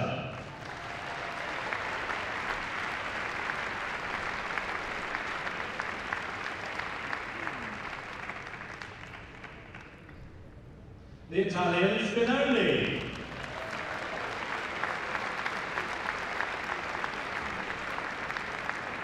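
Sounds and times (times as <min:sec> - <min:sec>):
audience applauding: 0:00.4 - 0:10.2, 0:12.7 - 0:19.0.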